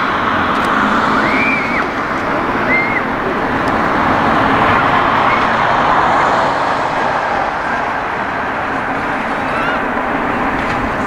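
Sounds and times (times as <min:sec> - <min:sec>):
jet engines at low power: 0:00.0 - 0:11.0.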